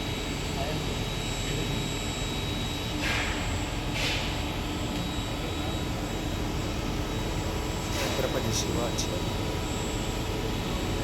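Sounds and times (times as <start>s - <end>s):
machine high whine: 0.0s - 11.0s.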